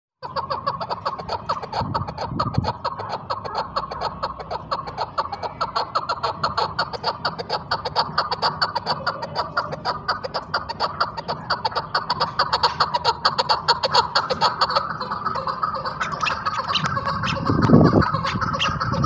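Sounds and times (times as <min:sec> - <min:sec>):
partridge clucking call: 0:00.2 - 0:19.0.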